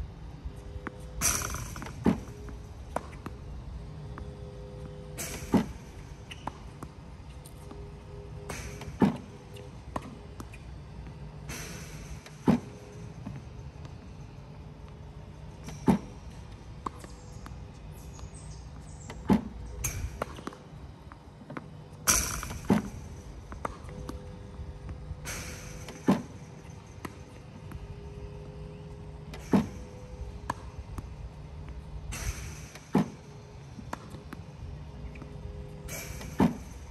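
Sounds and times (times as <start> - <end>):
ball machine humming: 0.0 - 36.9.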